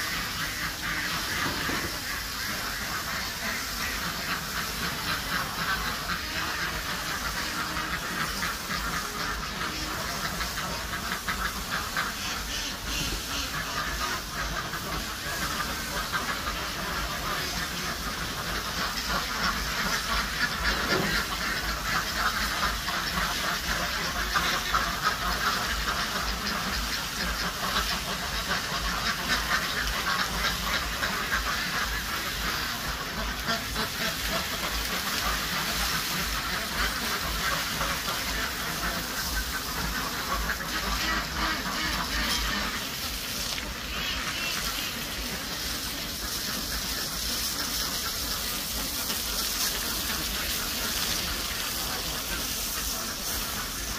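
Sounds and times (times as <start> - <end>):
ducks quacking: 0.0 - 53.9
steady hiss: 0.0 - 53.9.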